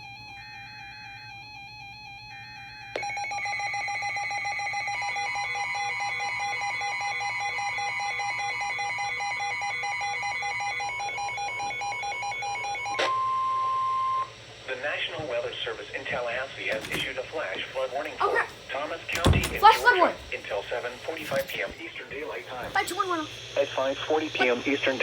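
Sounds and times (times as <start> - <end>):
rapidly pulsing alarm: 0.0 - 25.0.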